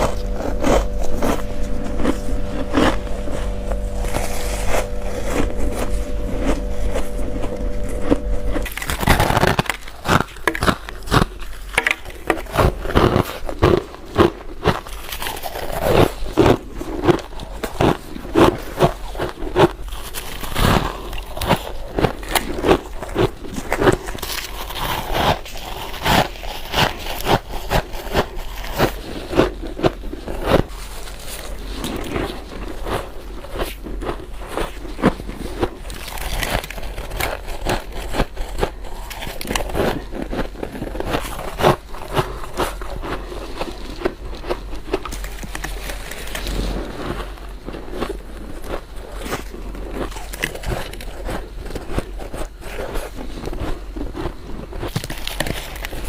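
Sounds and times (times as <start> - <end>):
chewing crunchy frost: 0.0 - 56.0
steady hum: 0.0 - 56.0.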